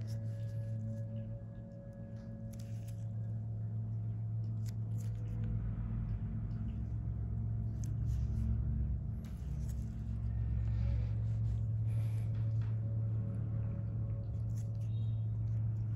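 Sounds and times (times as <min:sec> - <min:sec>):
low hum: 0:00.0 - 0:15.9.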